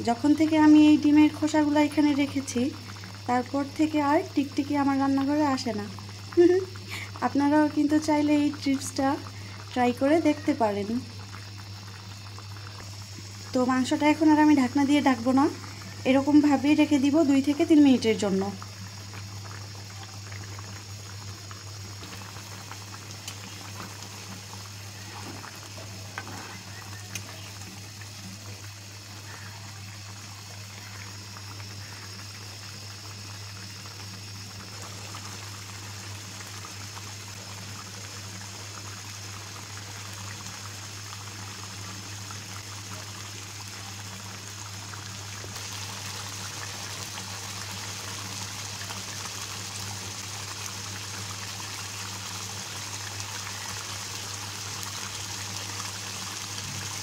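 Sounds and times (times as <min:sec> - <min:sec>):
curry boiling in a pan: 0:00.0 - 0:57.0.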